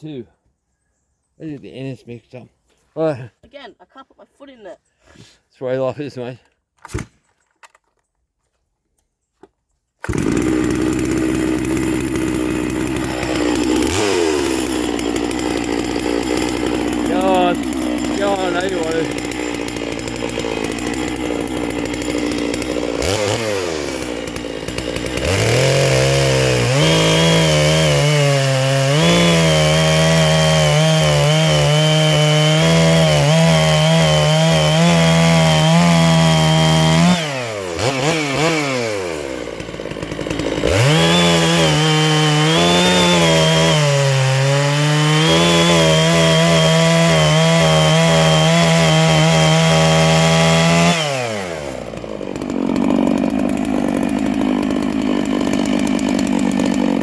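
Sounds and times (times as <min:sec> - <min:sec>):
chainsaw revving: 0:10.0 - 0:57.0.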